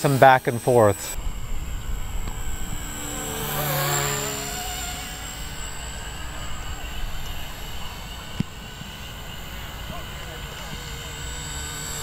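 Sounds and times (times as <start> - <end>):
rc helicopter whining: 0.0 - 12.0
engine passing by: 1.1 - 12.0.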